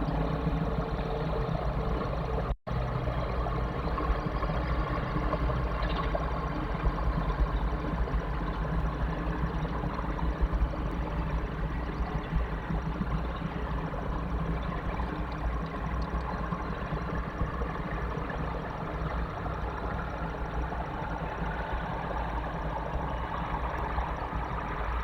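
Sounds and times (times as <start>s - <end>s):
low rumble and hiss: 0.0s - 25.0s.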